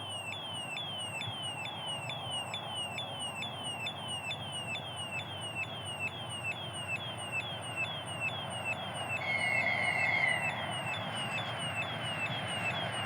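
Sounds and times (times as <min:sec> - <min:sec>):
level crossing warning signal: 0:00.0 - 0:13.0.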